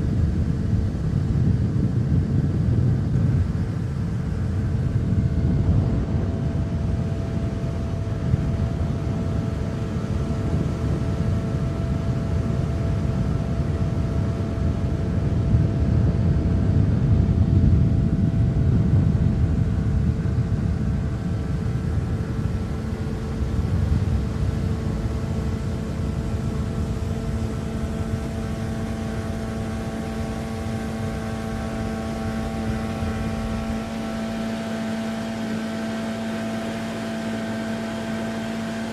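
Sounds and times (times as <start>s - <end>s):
deeper hum: 0.0s - 38.9s
motorboat engine running: 0.0s - 38.9s.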